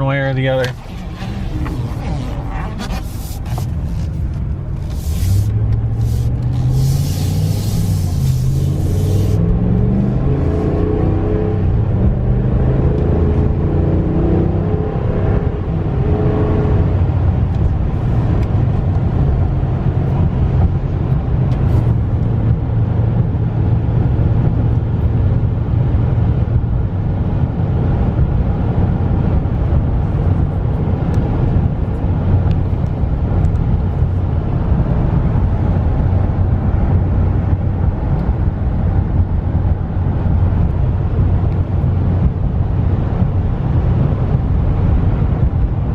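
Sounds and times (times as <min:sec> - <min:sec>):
engine and road noise drone: 0:00.0 - 0:45.9.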